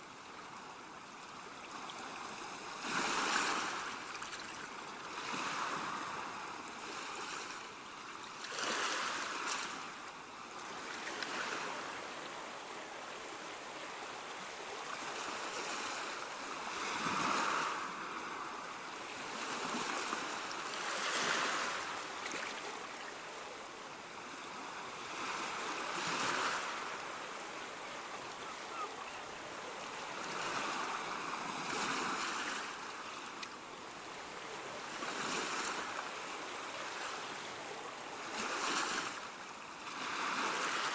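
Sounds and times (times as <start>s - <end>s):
ocean waves breaking: 2.0s - 7.8s, 8.4s - 40.9s.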